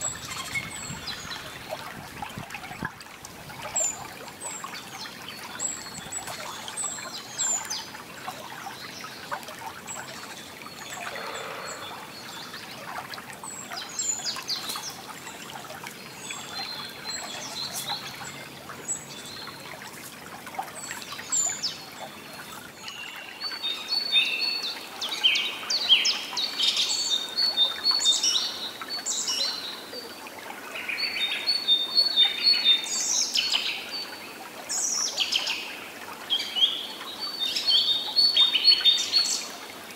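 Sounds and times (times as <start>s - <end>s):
songbirds chirping and trilling: 0.0s - 2.9s, 3.5s - 39.9s.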